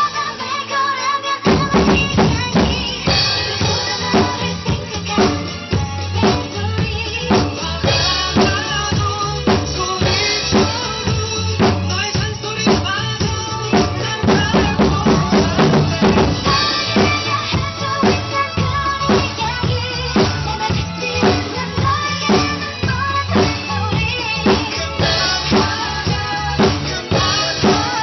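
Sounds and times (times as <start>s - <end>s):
drum kit playing pop groove: 0.0s - 28.0s
recorded pop song: 0.0s - 28.0s.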